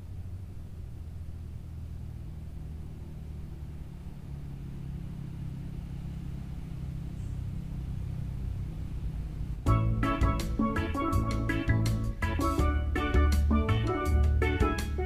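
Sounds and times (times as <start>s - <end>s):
faint hum: 0.0s - 15.0s
steady low rumble: 0.0s - 15.0s.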